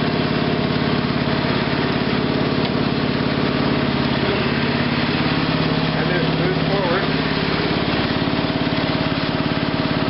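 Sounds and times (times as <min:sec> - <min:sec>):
lawn tractor engine running: 0:00.0 - 0:10.0.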